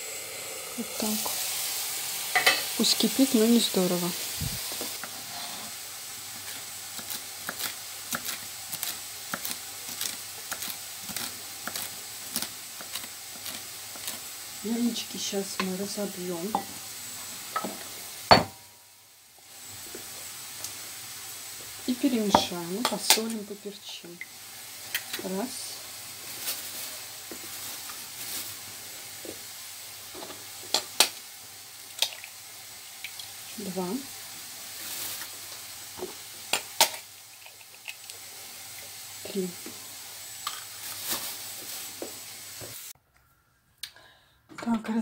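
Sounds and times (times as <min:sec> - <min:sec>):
frying sizzle: 0:00.0 - 0:43.0.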